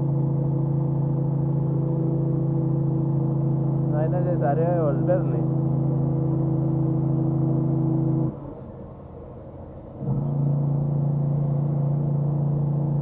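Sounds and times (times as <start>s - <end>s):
diesel engine braking drone: 0.0s - 13.0s.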